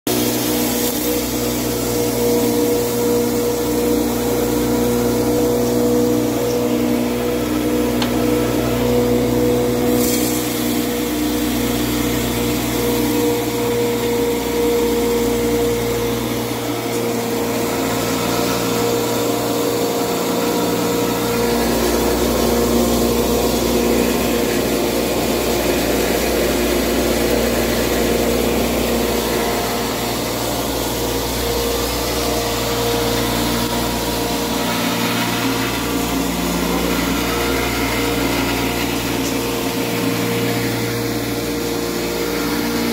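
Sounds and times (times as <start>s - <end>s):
hammer mill grinding maize: 0.1s - 42.9s.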